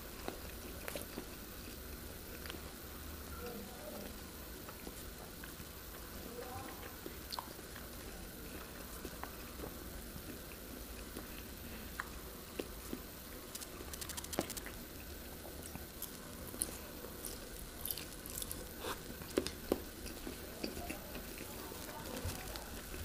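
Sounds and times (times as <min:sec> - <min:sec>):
chewing soft food: 0:00.0 - 0:23.0.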